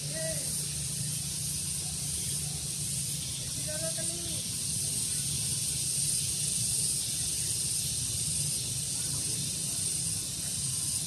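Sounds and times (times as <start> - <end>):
breeze rumble: 0.0 - 11.0
steady high-pitched hiss: 0.0 - 11.0.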